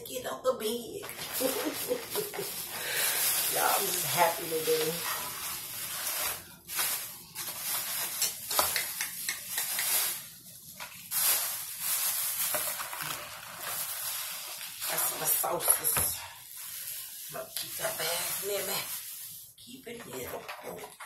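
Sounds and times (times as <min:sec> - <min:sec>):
food bag rustling and crinkling: 0:01.0 - 0:21.0.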